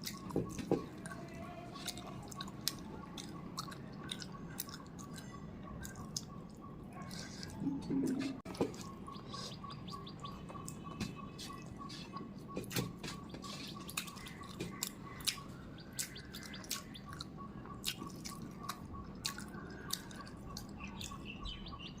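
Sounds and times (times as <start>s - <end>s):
wet eating clicks and smacks: 0.0s - 21.3s
faint bird chirps: 0.1s - 22.0s.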